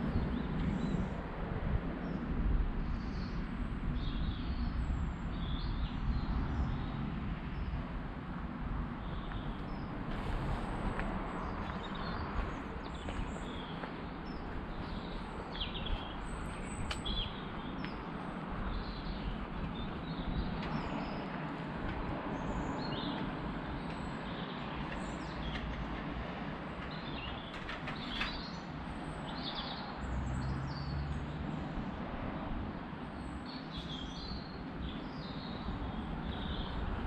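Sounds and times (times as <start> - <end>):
songbirds chirping: 0.0 - 8.0, 8.7 - 37.0.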